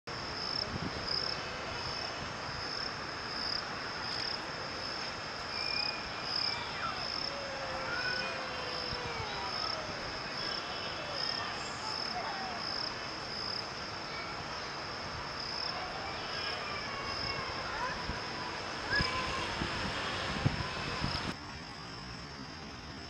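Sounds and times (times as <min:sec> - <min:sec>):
faint outdoor hiss: 0:00.1 - 0:23.0
insect chirping: 0:00.2 - 0:19.3.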